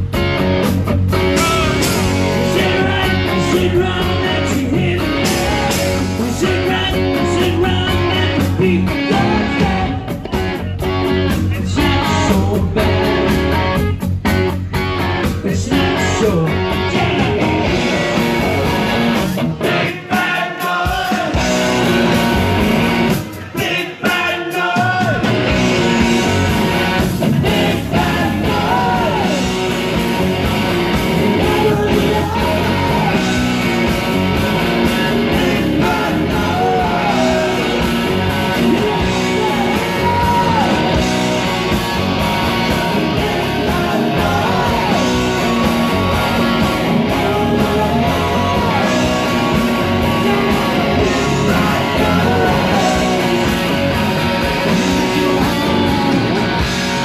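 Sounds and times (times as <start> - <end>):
live rock band playing: 0.0 - 57.0
lead singer vocal: 1.4 - 10.4, 11.4 - 13.5, 15.3 - 18.8, 19.5 - 22.6, 23.3 - 26.5, 27.1 - 29.9, 31.1 - 34.0, 34.6 - 41.9, 42.6 - 56.6.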